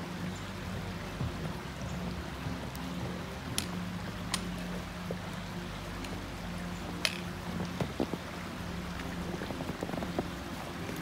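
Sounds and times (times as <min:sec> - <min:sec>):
brook flowing: 0:00.0 - 0:11.0.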